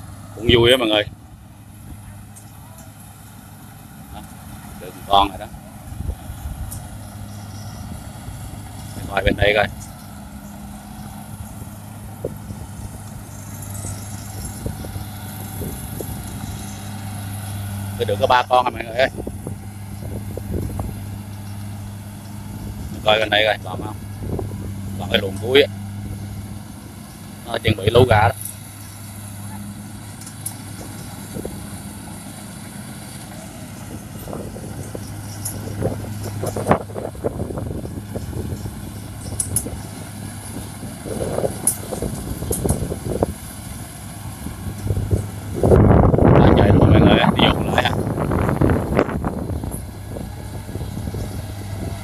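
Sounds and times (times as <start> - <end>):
combine harvester engine humming: 0.0 - 52.0.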